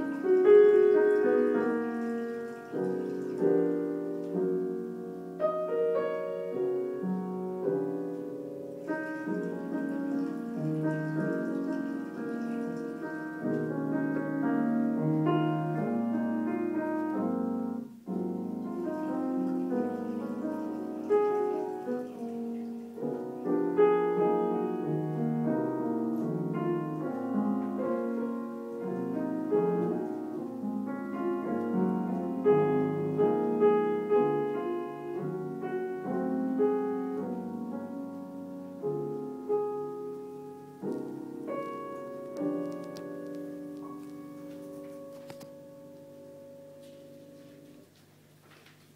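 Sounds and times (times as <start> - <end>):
piano practice: 0.0 - 48.9.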